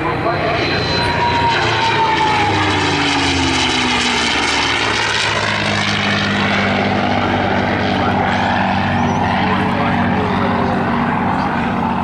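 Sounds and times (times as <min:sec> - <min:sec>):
propeller plane engine flying past: 0:00.0 - 0:12.0.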